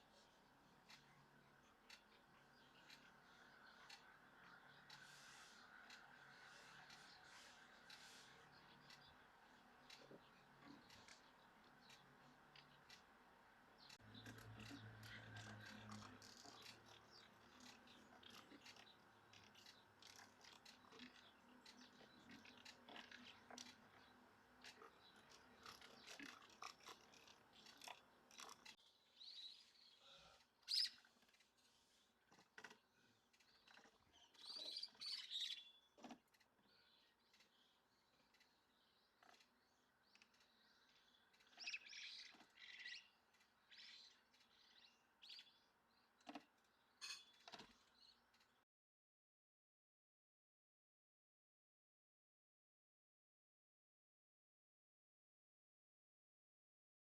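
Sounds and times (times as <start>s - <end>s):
small birds chirping: 0.0s - 48.6s.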